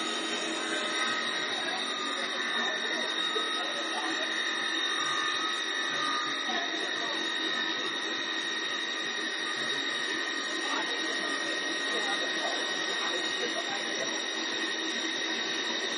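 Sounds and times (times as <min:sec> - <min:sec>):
cutter shaving wood: 0:00.0 - 0:15.9
wood lathe whine: 0:00.0 - 0:15.9.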